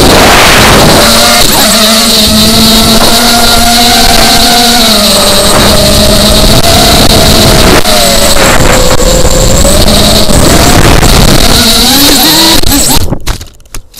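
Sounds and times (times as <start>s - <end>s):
rushing wind: 0.0s - 13.4s
drone motors whining: 0.0s - 13.9s.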